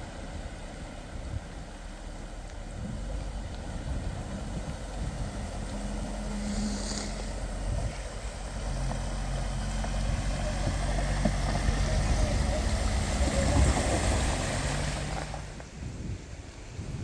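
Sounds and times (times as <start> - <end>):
van engine running low: 0.0 - 16.9
water washing around wheels: 0.0 - 17.0.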